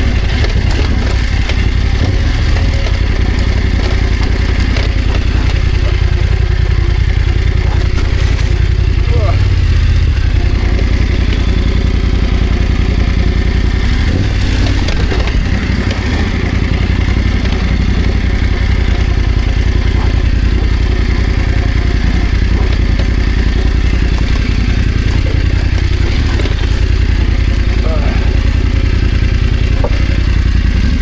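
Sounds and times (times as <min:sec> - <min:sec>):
engine clatter: 0:00.0 - 0:31.0
motorcycle engine at low revs: 0:00.0 - 0:31.0.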